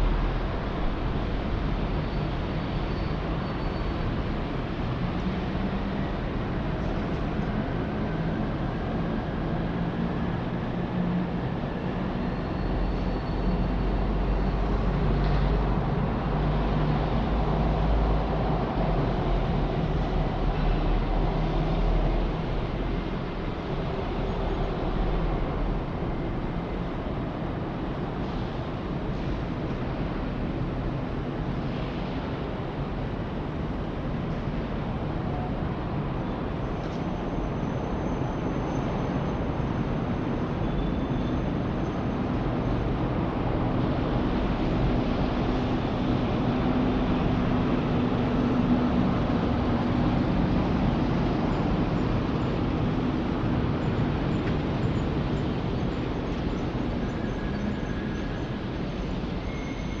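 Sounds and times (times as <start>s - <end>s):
city traffic rumble: 0.0s - 60.0s.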